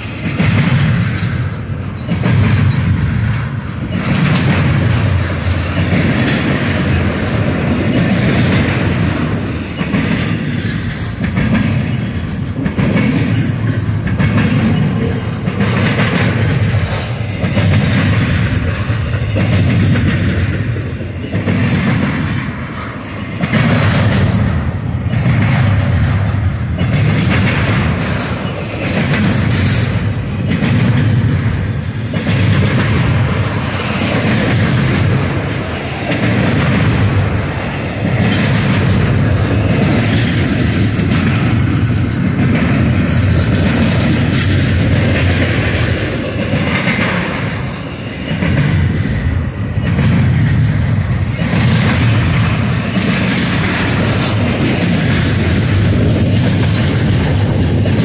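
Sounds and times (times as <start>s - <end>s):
freight train rumbling past: 0.0s - 58.0s
wheels clattering over rails: 3.9s - 58.0s.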